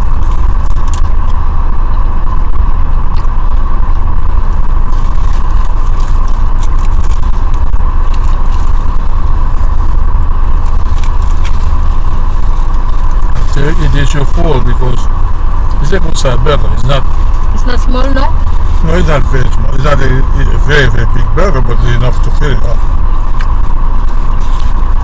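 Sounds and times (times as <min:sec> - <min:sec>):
constant hum: 0:00.0 - 0:25.0
loud low rumble: 0:00.0 - 0:25.0.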